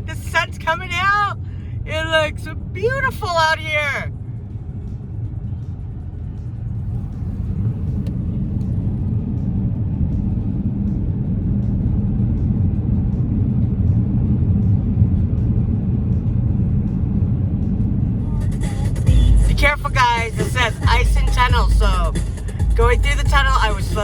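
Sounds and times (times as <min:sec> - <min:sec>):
car cabin low rumble: 0:00.0 - 0:24.0.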